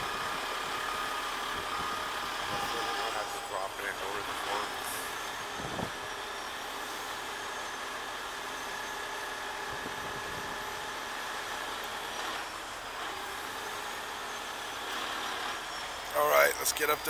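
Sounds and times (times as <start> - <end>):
faint steady whine: 0.0 - 14.8
diesel engine running: 0.0 - 17.0.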